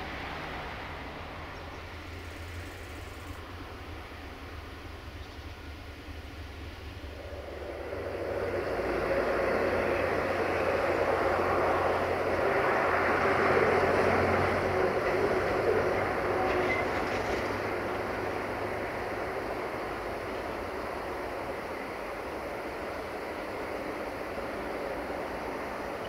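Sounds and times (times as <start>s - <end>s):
diesel locomotive engine approaching: 0.0s - 26.0s.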